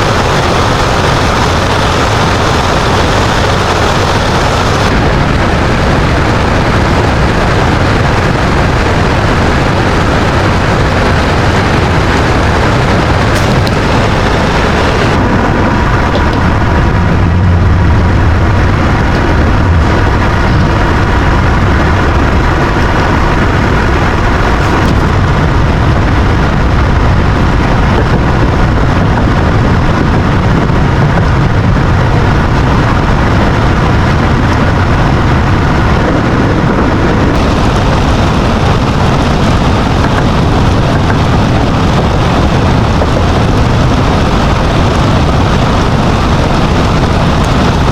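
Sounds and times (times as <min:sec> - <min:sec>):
road and rain hiss: 0:00.0 - 0:47.9
truck engine rumbling: 0:00.0 - 0:47.9.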